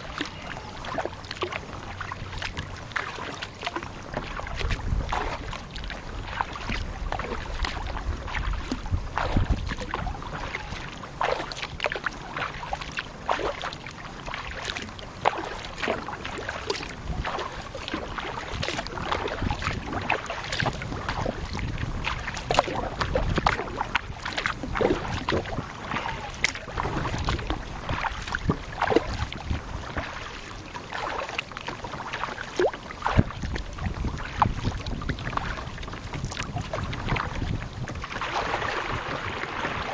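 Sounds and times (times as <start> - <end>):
paddle splashing in water: 0.0 - 39.9
wind rumble on microphone: 0.0 - 39.9
paddle knocking against hull: 0.1 - 39.9.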